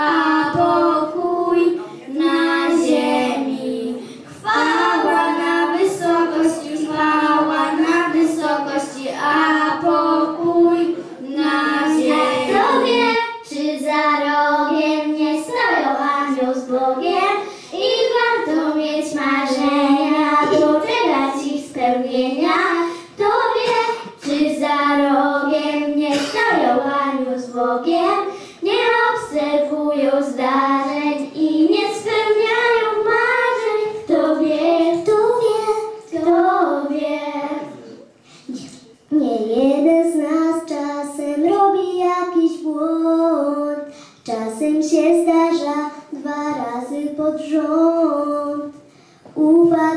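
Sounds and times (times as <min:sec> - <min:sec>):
children singing a carol: 0:00.0 - 0:49.9.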